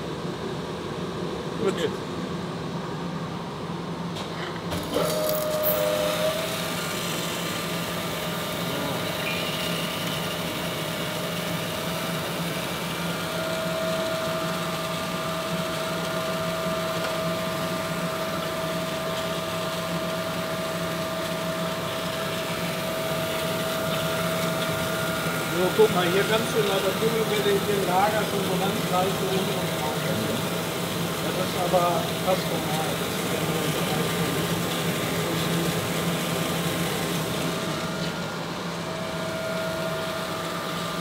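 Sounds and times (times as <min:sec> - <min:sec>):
machine whine: 0:02.6 - 0:41.0
grinding machine motor hum: 0:04.8 - 0:41.0.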